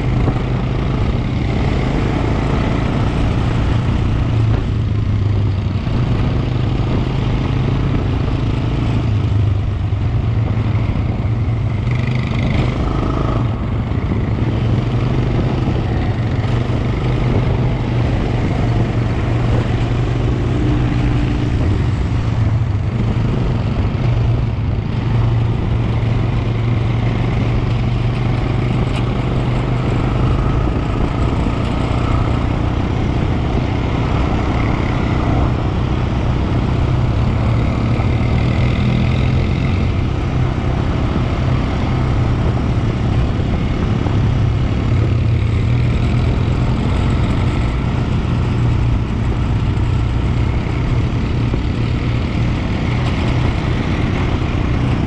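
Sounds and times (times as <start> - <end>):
quad bike engine drone: 0.0 - 55.0.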